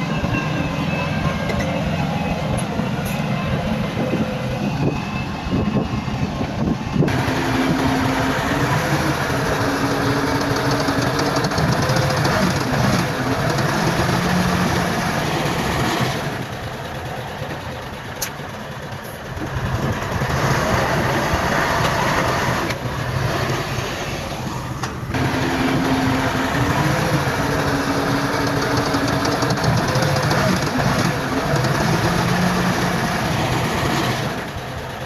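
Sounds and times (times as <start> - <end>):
heavy machinery diesel engines: 0.0 - 35.0.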